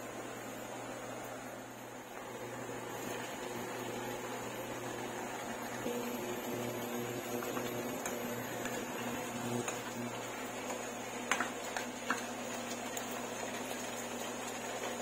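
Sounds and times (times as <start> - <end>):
kitchen appliance humming: 0.0 - 15.0.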